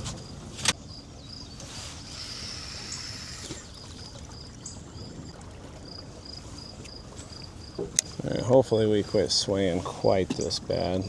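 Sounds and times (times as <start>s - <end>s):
crickets chirping: 0.0s - 11.0s
river current rushing: 0.0s - 11.0s.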